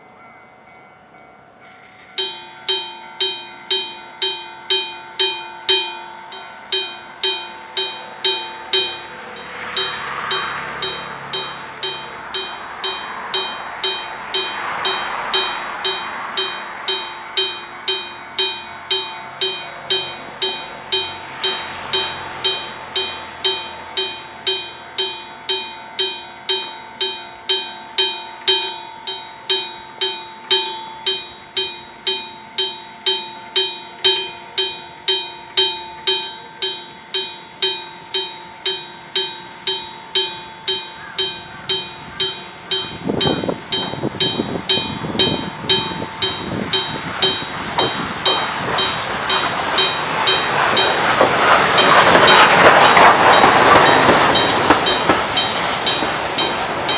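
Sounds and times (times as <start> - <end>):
level crossing bell ringing: 0.0 - 56.9.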